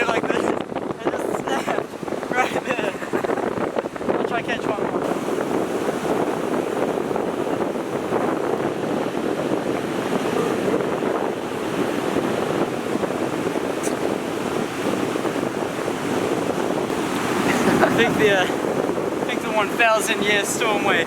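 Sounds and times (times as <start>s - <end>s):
surf breaking: 0.0s - 21.0s
wind buffeting the microphone: 0.0s - 21.0s.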